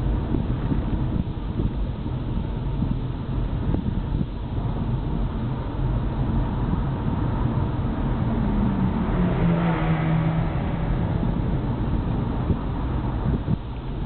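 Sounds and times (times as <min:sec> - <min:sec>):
car engine: 0:00.0 - 0:14.0
road noise: 0:00.0 - 0:14.0.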